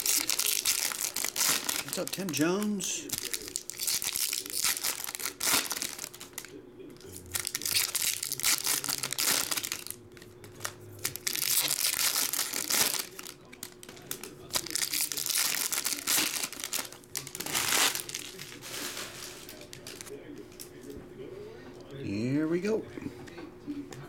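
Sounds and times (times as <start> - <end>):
foil wrappers torn and crumpled: 0.0 - 6.6, 7.2 - 20.1.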